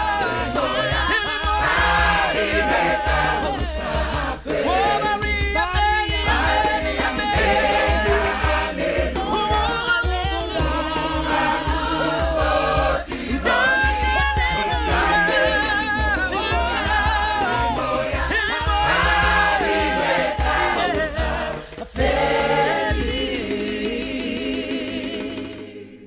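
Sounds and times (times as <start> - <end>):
choir singing gospel: 0.0 - 26.0.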